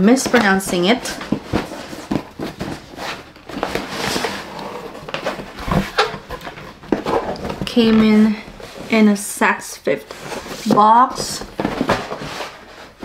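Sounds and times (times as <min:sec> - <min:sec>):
cardboard flaps rustling: 0:00.0 - 0:09.1, 0:10.1 - 0:13.0.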